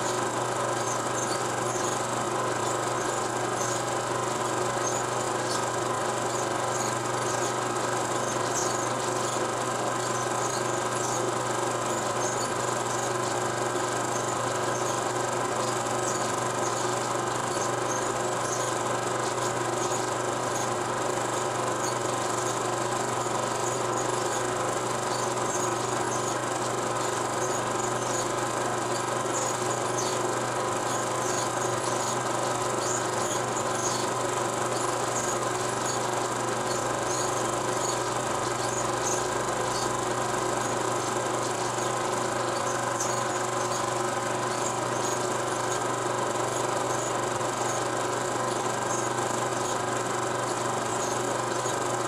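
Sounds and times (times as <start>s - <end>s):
steady hum and hiss: 0.0s - 52.0s.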